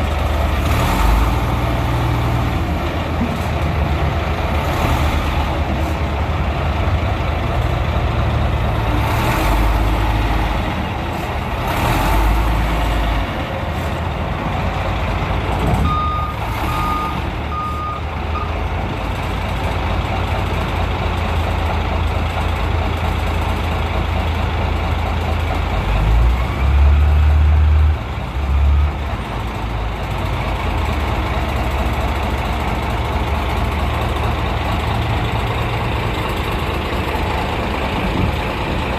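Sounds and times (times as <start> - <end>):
heavy machine engine rumble: 0.0 - 38.9.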